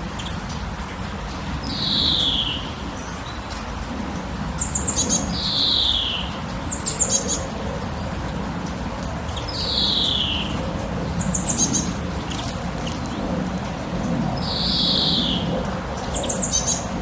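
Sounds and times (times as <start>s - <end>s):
songbirds calling: 0.0s - 3.7s, 4.4s - 17.0s.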